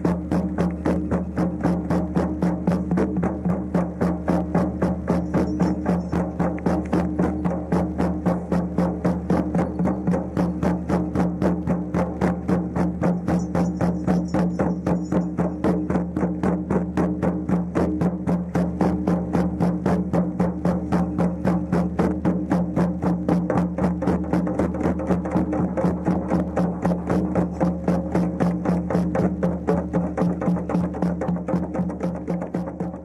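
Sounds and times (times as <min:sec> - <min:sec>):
frame drums beaten in unison: 0:00.0 - 0:33.0.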